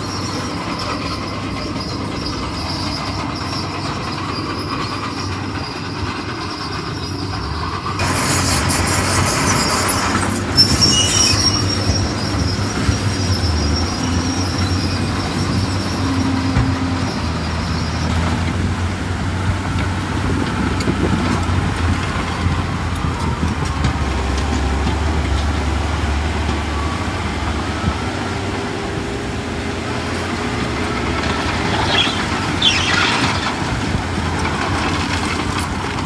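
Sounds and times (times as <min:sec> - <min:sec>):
metallic squeal of tracks: 0:00.0 - 0:18.8, 0:20.5 - 0:36.0
bulldozer diesel engine running: 0:00.0 - 0:36.0.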